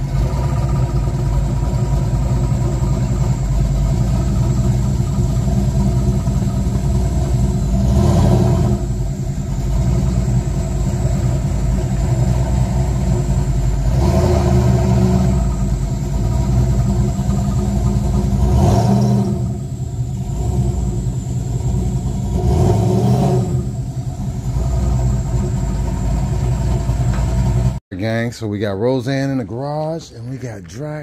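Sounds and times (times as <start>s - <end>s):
car engine revving: 0.0s - 27.8s
car engine running: 0.0s - 27.8s.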